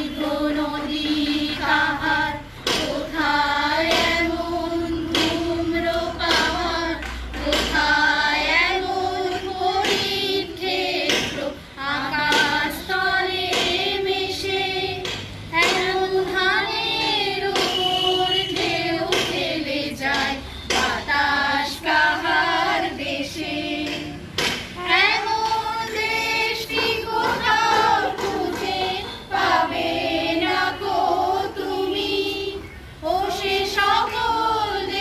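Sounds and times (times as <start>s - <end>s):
group of adults singing: 0.0s - 35.0s.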